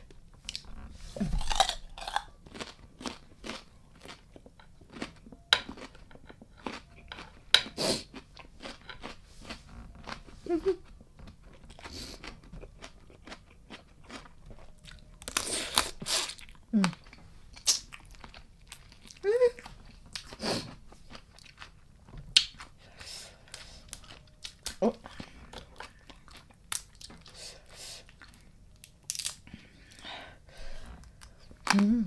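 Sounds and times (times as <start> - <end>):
person chewing crunchy food: 0.4 - 30.0.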